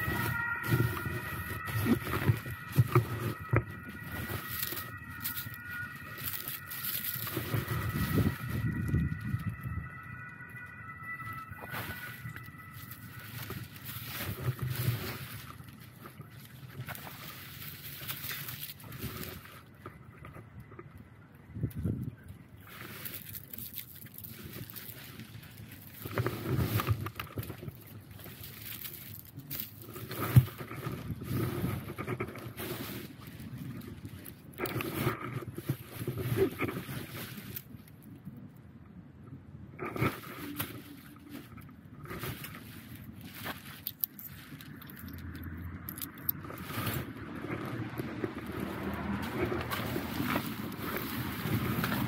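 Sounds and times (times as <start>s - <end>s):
dry leaves rustling and crunching: 0.0s - 19.9s, 21.7s - 38.1s, 39.9s - 52.0s
low steady rumble: 0.0s - 52.0s.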